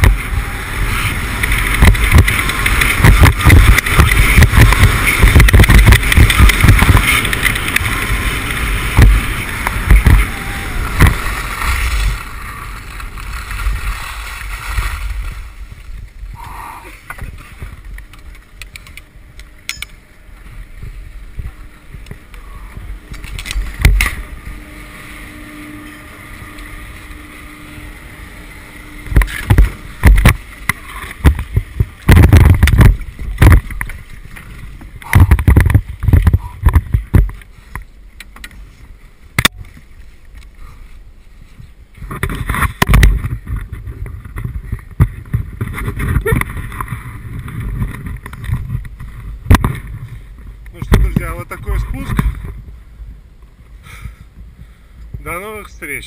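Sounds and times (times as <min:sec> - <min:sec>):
wind buffeting microphone: 0:00.0 - 0:39.9, 0:40.5 - 0:55.4
skis scraping over snow: 0:00.0 - 0:52.9.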